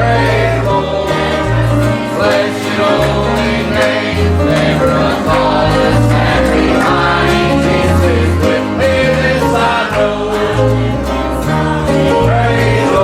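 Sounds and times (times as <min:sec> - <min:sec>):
bass line: 0:00.0 - 0:13.0
group singing a gospel hymn: 0:00.0 - 0:13.0
instrumental accompaniment: 0:00.0 - 0:13.0.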